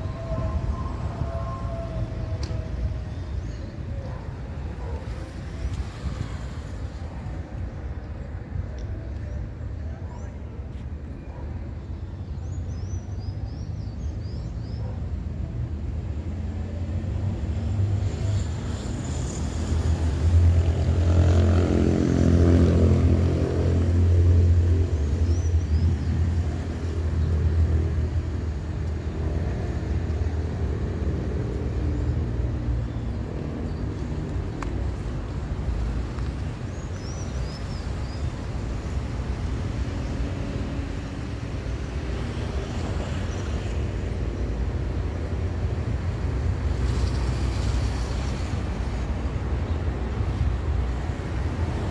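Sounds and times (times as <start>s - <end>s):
road traffic rumble: 0.0s - 51.9s.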